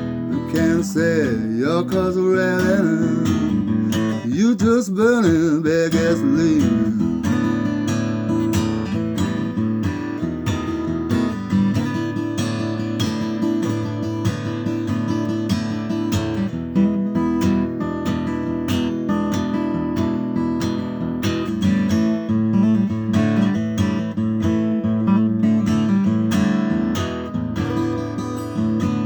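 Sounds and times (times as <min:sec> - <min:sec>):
acoustic guitar blues: 0:00.0 - 0:29.0.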